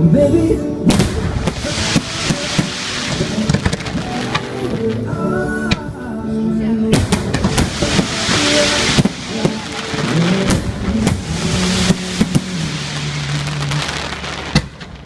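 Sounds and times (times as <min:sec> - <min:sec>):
song playing: 0:00.0 - 0:14.8
fireworks bangs: 0:00.9 - 0:05.9, 0:06.9 - 0:15.0
fireworks crackling: 0:00.9 - 0:06.0, 0:06.9 - 0:15.0.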